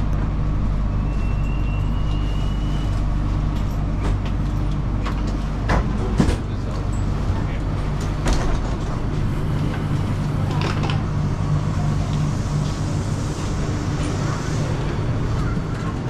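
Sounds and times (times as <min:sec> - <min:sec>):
passengers moving: 0:00.0 - 0:16.0
train low hum: 0:00.0 - 0:16.0
passengers' voices: 0:00.2 - 0:16.0.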